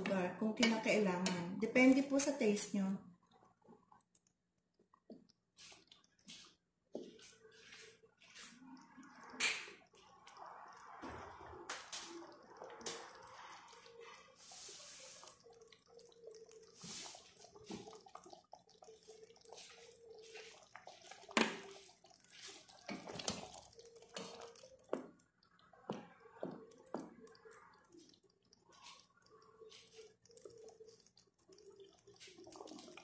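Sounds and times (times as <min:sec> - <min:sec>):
wooden spoon stirring in pot: 0:00.0 - 0:02.7, 0:04.8 - 0:33.0
stew bubbling in a pot: 0:00.0 - 0:33.0.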